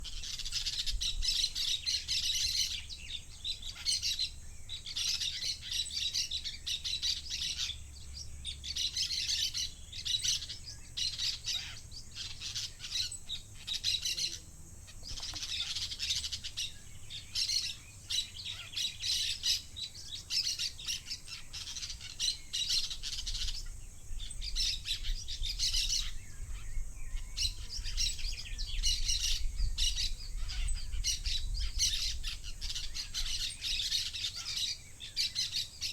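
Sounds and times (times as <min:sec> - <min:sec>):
parakeets calling: 0:00.0 - 0:07.9, 0:08.5 - 0:35.9.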